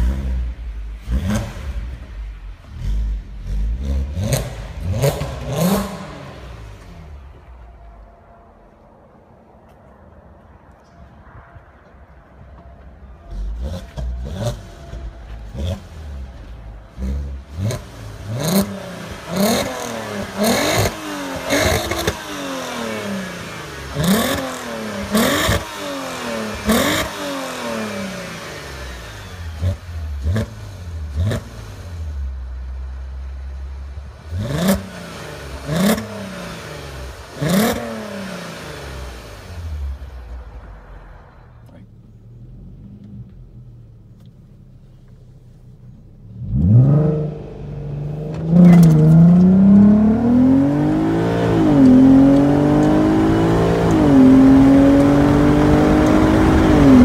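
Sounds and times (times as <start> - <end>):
car engine revving: 0.0 - 8.1, 13.1 - 57.0
exhaust cracks: 9.6 - 57.0.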